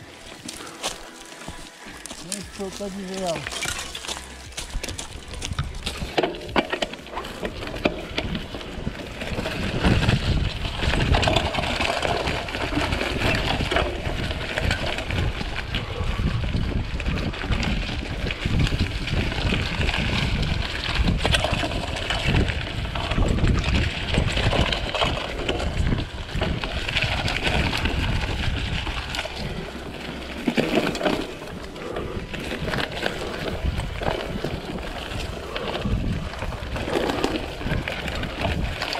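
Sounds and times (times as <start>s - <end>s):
bike rattling and knocking: 0.0s - 38.9s
tyres running over dirt: 0.0s - 38.9s
wind buffeting microphone: 0.0s - 38.9s.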